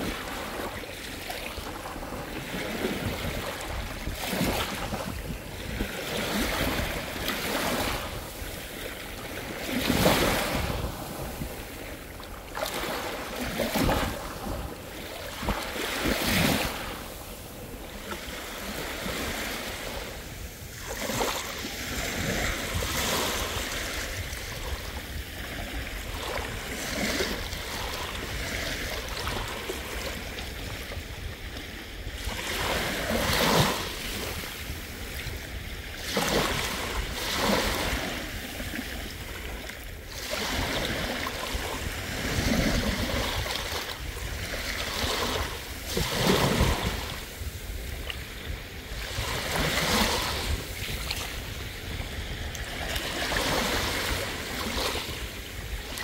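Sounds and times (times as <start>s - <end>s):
sea waves breaking: 0.0s - 56.0s
wind rumble on microphone: 0.0s - 56.0s.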